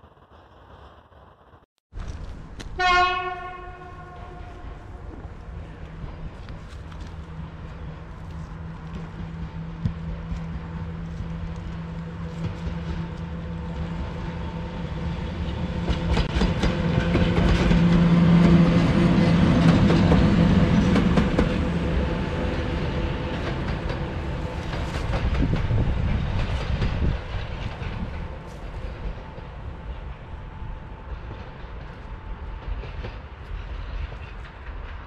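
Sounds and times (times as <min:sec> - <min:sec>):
steady train hum: 0:00.0 - 0:35.0
train wheels clacking on rails: 0:05.6 - 0:35.0.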